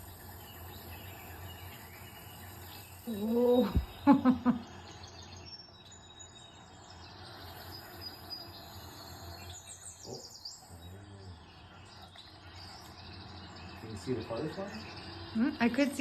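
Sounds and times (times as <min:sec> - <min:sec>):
birds chirping: 0:00.0 - 0:16.0
insect trill: 0:00.0 - 0:16.0.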